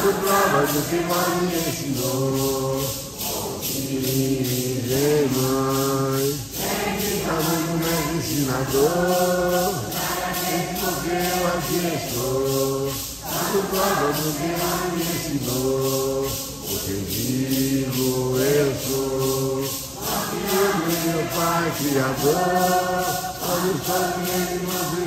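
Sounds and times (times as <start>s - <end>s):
group singing a hymn: 0.0s - 25.0s
maracas shaken in a steady beat: 0.0s - 25.0s.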